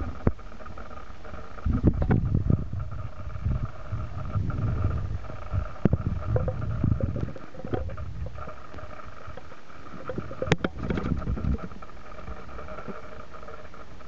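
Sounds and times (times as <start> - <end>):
faint steady whine: 0.0 - 14.0
camera handling rumble: 0.1 - 13.7.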